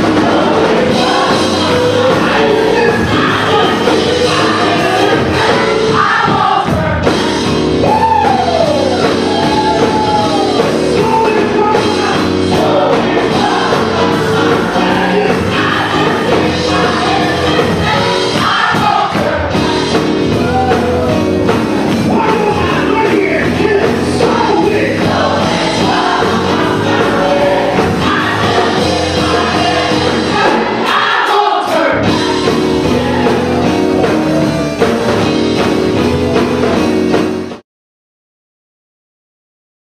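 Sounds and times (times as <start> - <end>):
gospel choir singing: 0.0 - 37.6
live band playing: 0.0 - 37.6.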